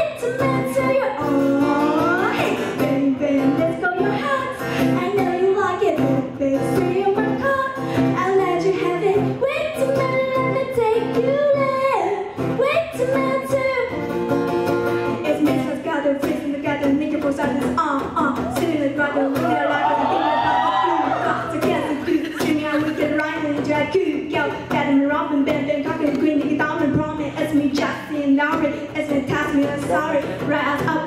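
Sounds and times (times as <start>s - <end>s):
person singing: 0.0s - 12.0s, 15.1s - 31.0s
guitar accompaniment: 0.0s - 31.0s.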